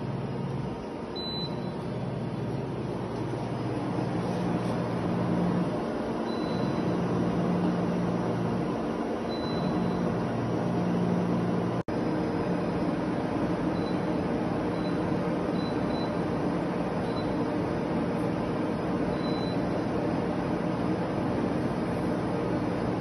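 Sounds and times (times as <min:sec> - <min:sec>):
lathe mechanical hum: 0:00.0 - 0:23.0.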